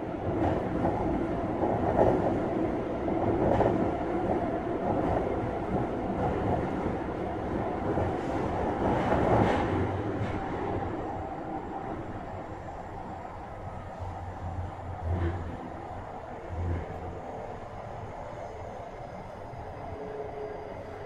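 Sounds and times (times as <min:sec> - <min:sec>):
train wheels rumbling in tunnel: 0:00.0 - 0:21.0.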